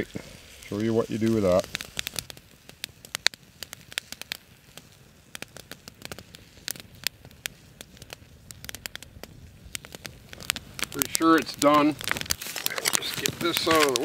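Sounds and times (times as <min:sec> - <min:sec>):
faint hiss: 0:00.0 - 0:14.0
fire pops and ticks: 0:00.0 - 0:14.0
wood fire crackling: 0:00.0 - 0:14.0.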